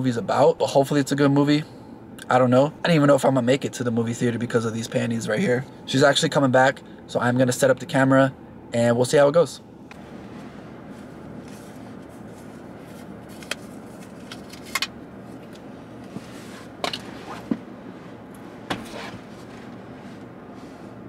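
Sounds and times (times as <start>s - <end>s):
low car interior noise: 0.0s - 21.0s.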